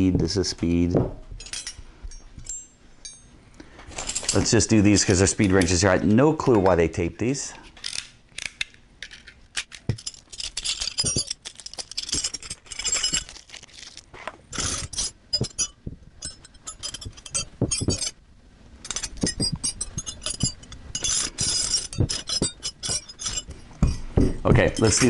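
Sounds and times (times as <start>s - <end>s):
metal wrenches clinking together: 1.4s - 3.3s, 3.9s - 6.7s, 7.8s - 13.9s, 14.6s - 18.2s, 18.8s - 25.0s.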